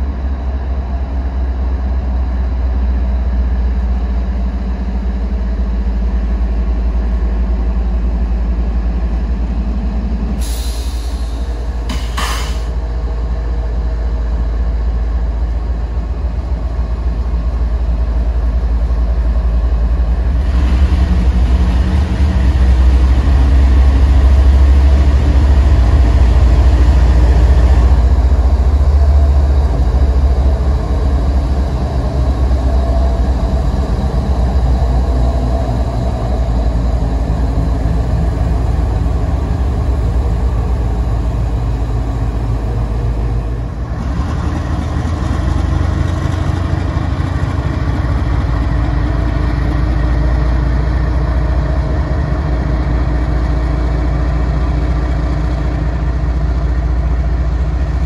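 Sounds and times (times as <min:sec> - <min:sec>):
diesel locomotive engines running: 0:00.0 - 0:58.0.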